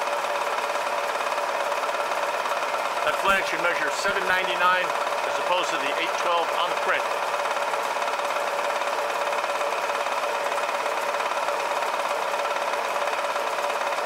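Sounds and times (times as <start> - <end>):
milling machine cutting metal: 0.7 - 14.0.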